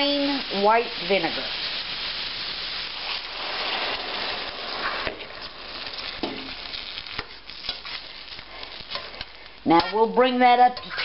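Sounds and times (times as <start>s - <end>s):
vinegar sizzling in hot pan: 0.0s - 11.0s.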